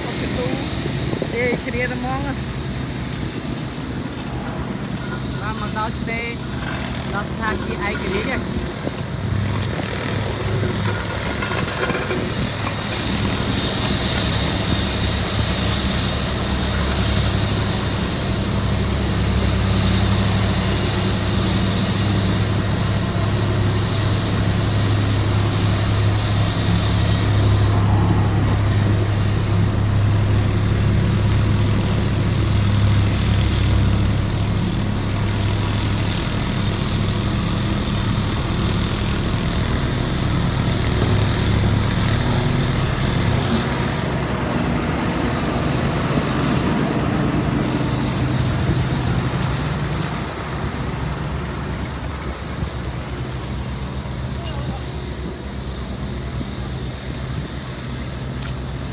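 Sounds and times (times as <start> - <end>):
diesel engines humming: 0.0 - 58.9.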